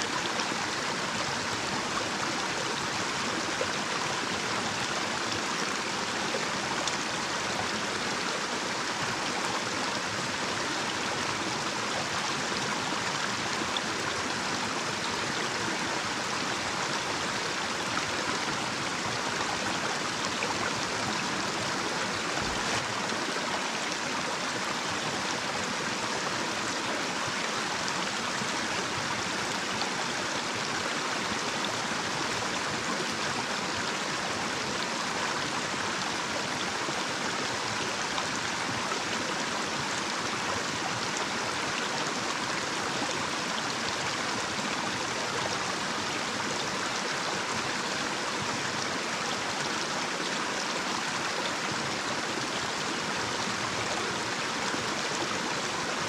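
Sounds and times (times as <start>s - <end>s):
stream rushing over cascade: 0.0s - 56.0s.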